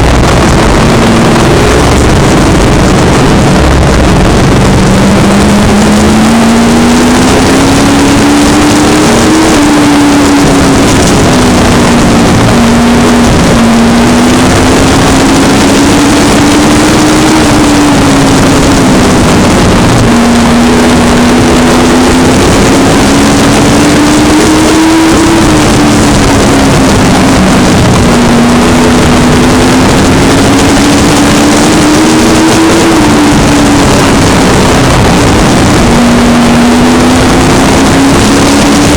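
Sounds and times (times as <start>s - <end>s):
dense wash of noise: 0.0s - 38.9s
race truck engines revving: 0.0s - 38.9s.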